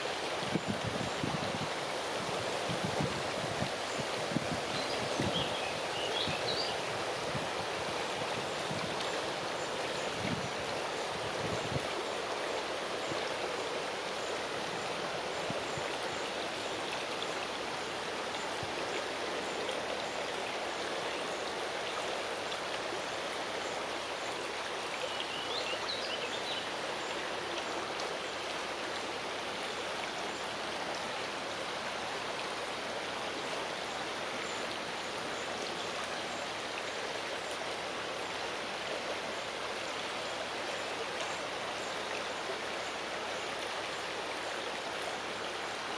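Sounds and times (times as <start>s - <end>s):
wind rustling tree leaves: 0.0s - 45.9s.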